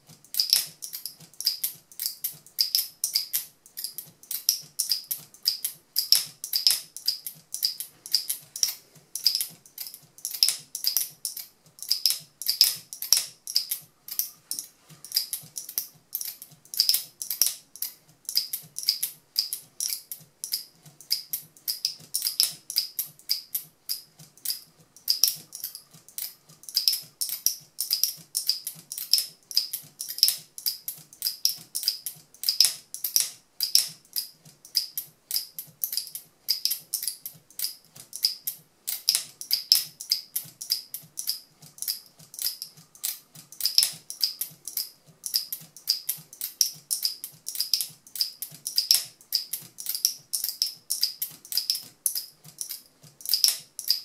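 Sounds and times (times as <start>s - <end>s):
locking mechanism sharp clicks: 0.1s - 54.0s.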